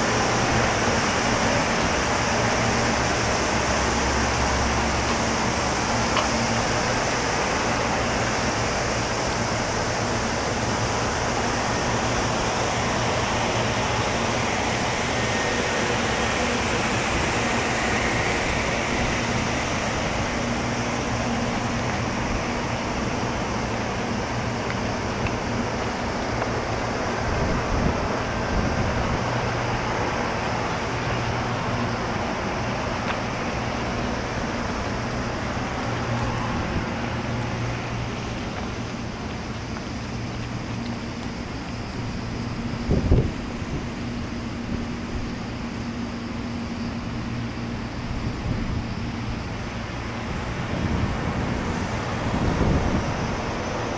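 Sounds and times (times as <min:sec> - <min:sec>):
train air conditioning whooshing: 0:00.0 - 0:53.9.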